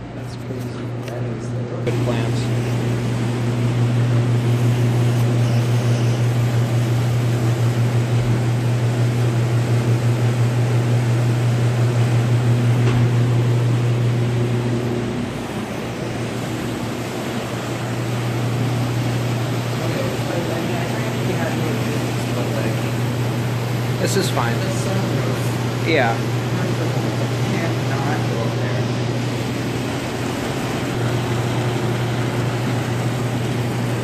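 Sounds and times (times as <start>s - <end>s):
ventilation machinery humming: 0.0s - 34.0s.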